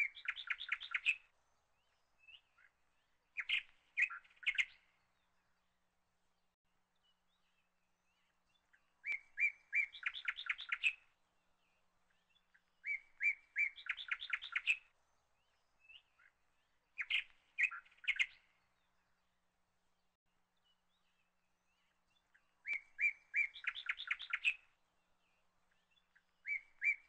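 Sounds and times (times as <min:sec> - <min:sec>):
bird singing: 0:00.0 - 0:05.8, 0:06.4 - 0:27.0.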